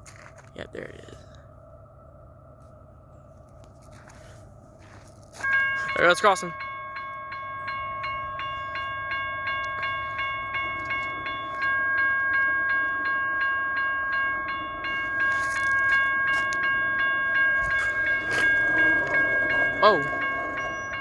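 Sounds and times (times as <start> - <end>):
passing train: 0.0 - 21.0
railroad crossing bell ringing: 0.8 - 21.0.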